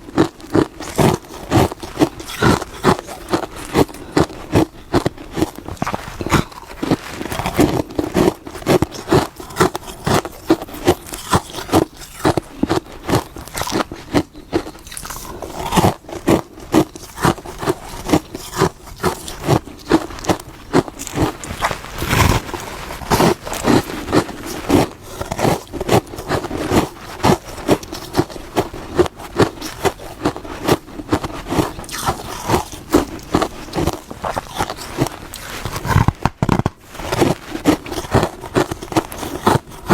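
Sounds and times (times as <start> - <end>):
frost crunching when chewed: 0.0 - 39.9.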